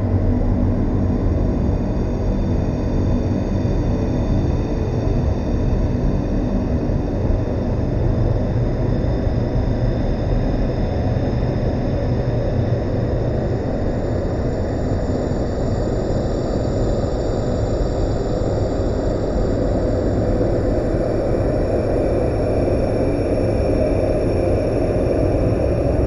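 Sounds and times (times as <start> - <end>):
low rumbling drone: 0.0 - 26.0.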